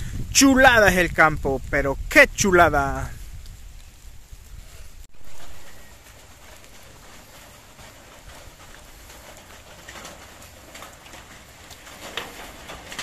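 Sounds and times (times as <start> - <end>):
wind and rain in trees: 0.0 - 13.0.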